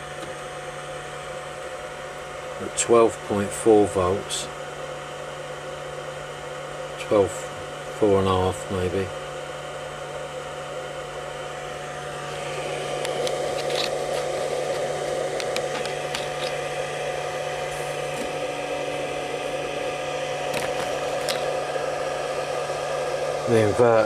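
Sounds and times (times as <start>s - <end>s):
inverter cooling fan whirring: 0.0s - 24.0s.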